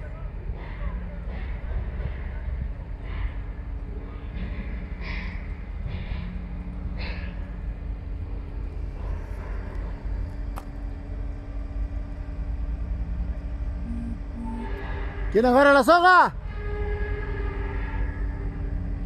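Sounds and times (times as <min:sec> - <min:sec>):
crane engine rumbling: 0:00.0 - 0:19.0.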